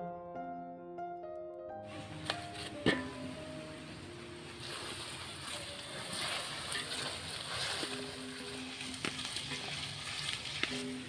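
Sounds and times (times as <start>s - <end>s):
sausages sizzling and bubbling: 1.8s - 11.0s
stick stirring in a wok: 1.9s - 11.0s.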